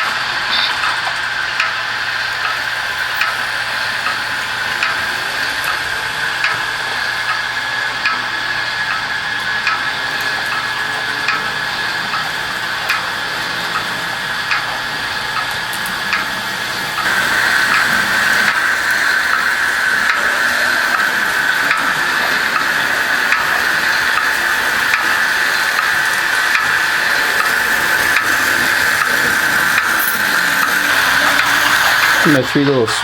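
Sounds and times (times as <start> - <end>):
model train motor whine: 0.0 - 33.0
wheels clicking over rail joints: 0.0 - 33.0.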